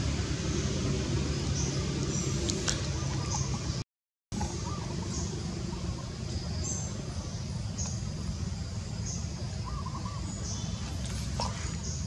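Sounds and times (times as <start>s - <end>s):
low forest rumble: 0.0s - 12.0s.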